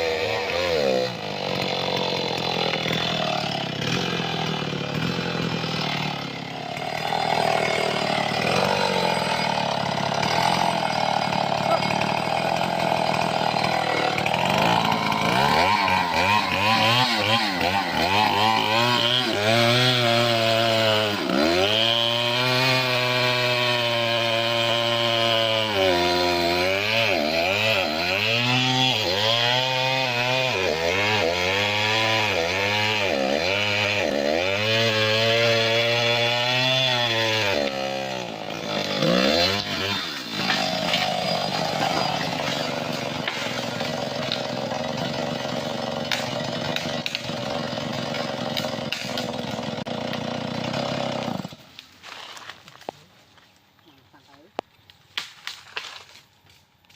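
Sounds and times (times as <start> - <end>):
chainsaw cutting wood: 0.0 - 53.4, 55.1 - 56.9.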